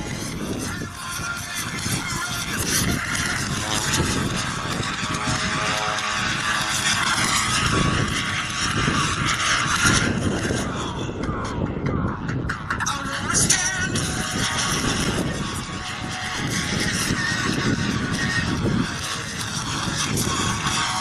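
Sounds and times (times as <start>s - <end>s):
model airplane motor whine: 0.0s - 11.2s, 12.9s - 21.0s
wind buffeting microphone: 0.0s - 21.0s.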